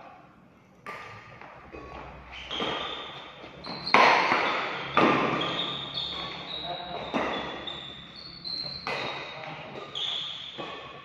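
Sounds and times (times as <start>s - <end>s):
racquets hitting shuttlecock: 0.8s - 11.0s.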